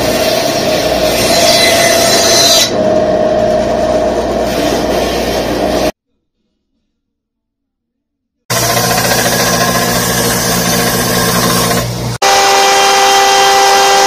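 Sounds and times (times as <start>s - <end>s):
band saw cutting wood: 0.0s - 6.0s, 8.5s - 14.0s.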